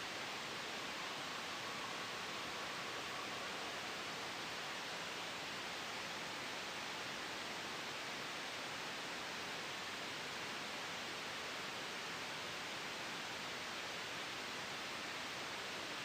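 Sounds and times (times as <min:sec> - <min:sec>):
gentle wind: 0:00.0 - 0:16.0
white noise hiss: 0:00.0 - 0:16.0.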